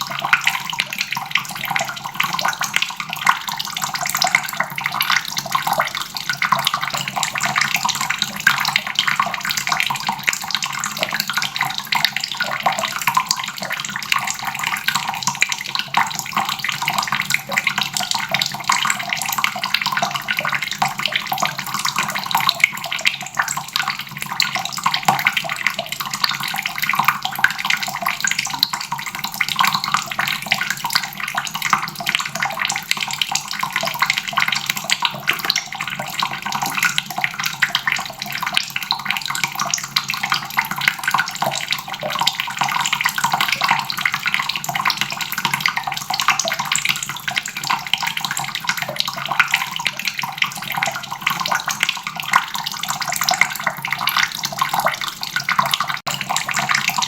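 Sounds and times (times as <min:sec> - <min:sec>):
water running from a faucet: 0:00.0 - 0:57.0.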